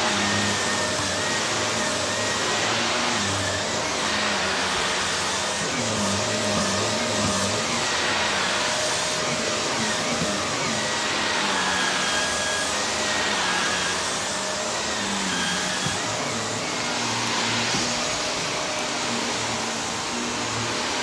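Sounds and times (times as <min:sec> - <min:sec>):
upright vacuum cleaner running: 0:00.0 - 0:21.0.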